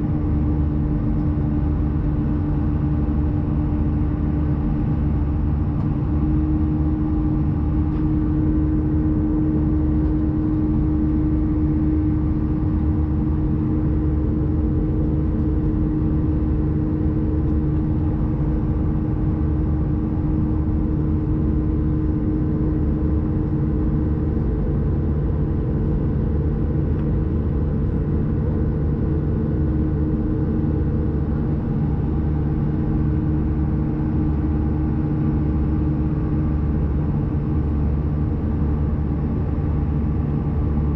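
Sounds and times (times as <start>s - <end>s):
engine howl: 0.0s - 40.9s
jet engines droning in cabin: 0.0s - 40.9s.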